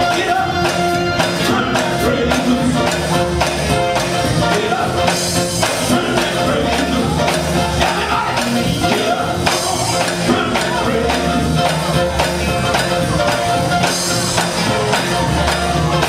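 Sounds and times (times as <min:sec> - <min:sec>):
gospel band playing: 0:00.0 - 0:16.0
lead singer singing: 0:00.0 - 0:16.0.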